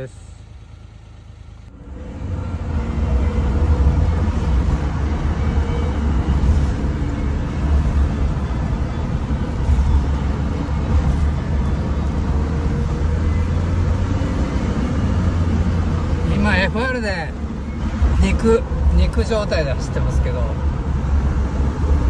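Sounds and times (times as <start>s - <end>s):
car engine rumble: 0.0s - 22.0s
faint engine whine: 0.0s - 22.0s.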